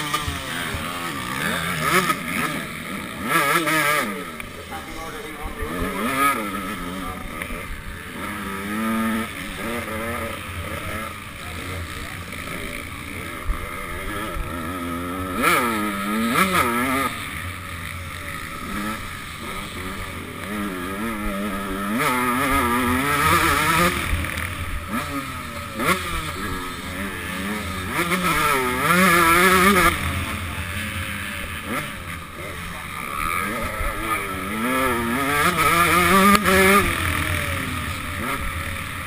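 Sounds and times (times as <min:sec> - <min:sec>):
motocross engine revving and shifting: 0:00.0 - 0:39.0.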